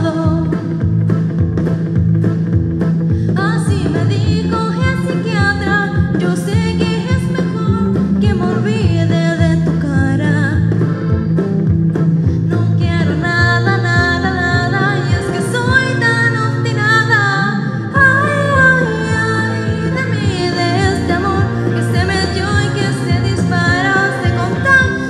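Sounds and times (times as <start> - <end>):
woman singing into a microphone: 0.0 - 0.8, 3.2 - 11.1, 12.3 - 25.0
karaoke backing track: 0.0 - 25.0.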